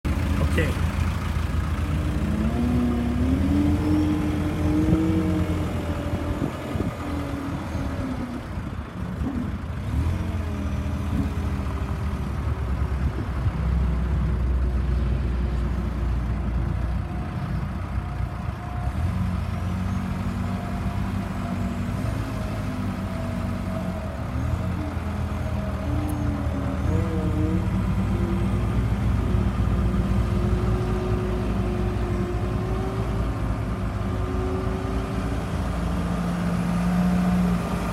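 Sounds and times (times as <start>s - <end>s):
skid-steer engine running: 0.0s - 37.9s.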